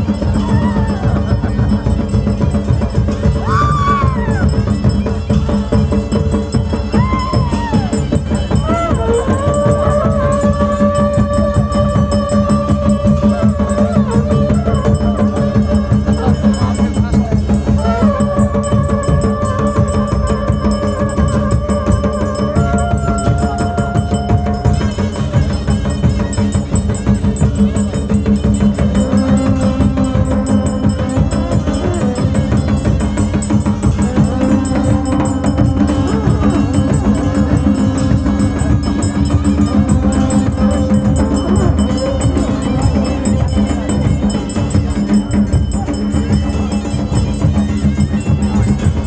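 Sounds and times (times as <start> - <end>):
continuous drumming: 0.0 - 49.0.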